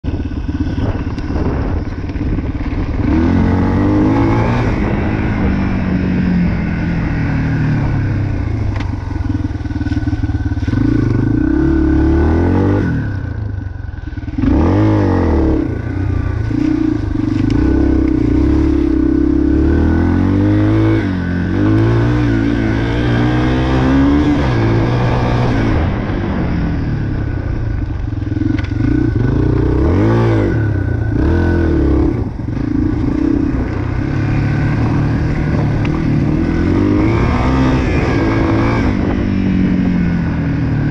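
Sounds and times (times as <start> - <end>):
dirt bike engine revving: 0.1 - 40.9.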